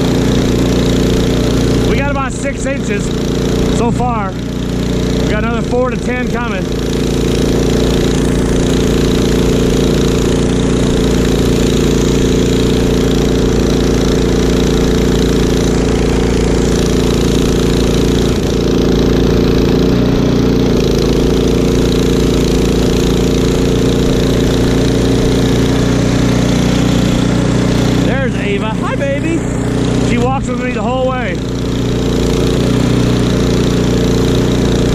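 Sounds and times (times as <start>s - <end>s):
snowblower engine running: 0.0s - 34.9s.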